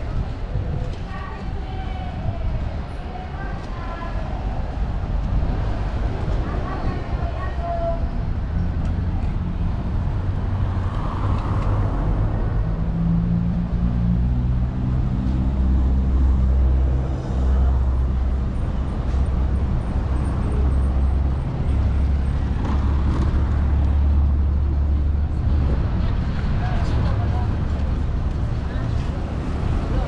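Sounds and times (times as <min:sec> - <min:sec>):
street traffic: 0:00.0 - 0:30.0
vehicle engine rumbling: 0:00.0 - 0:30.0.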